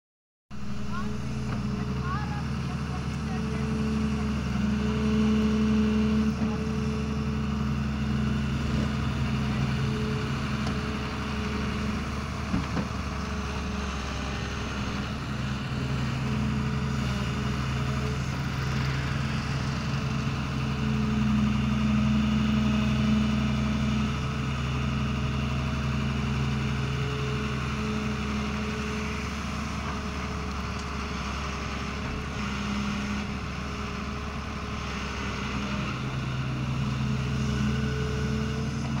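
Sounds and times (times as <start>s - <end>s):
excavator diesel engine running: 0.5s - 39.0s.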